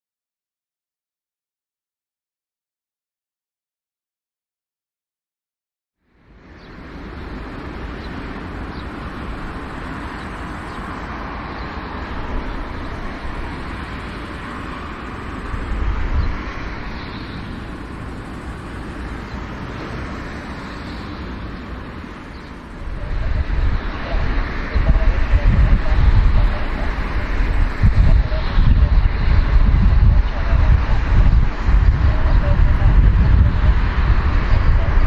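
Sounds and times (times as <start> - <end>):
jet engines running: 6.2 - 35.0.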